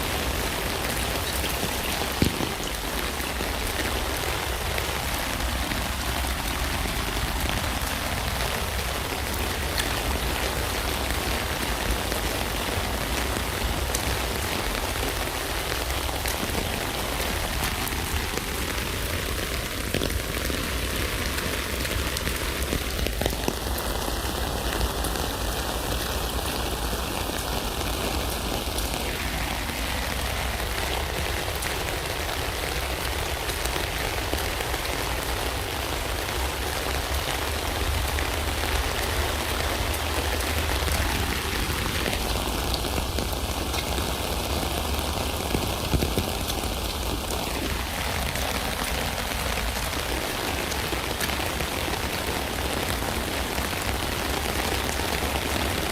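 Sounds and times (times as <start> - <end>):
rain falling on a tent: 0.0 - 55.9.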